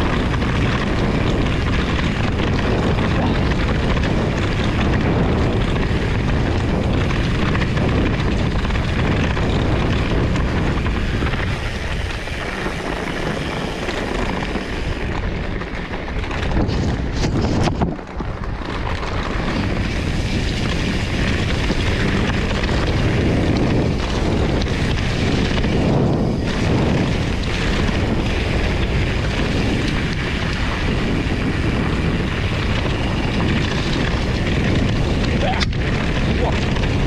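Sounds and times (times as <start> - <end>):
mountain bike tyres rumbling: 0.0 - 37.0
wind buffeting microphone: 0.0 - 37.0.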